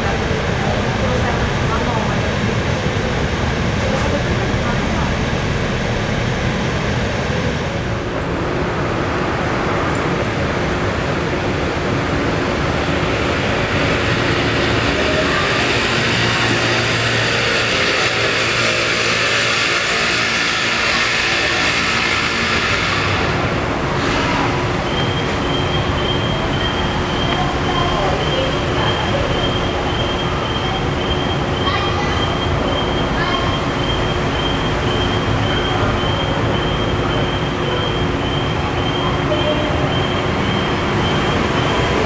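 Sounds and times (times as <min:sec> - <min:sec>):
city traffic noise: 0:00.0 - 0:42.0
monorail train running: 0:00.0 - 0:42.0.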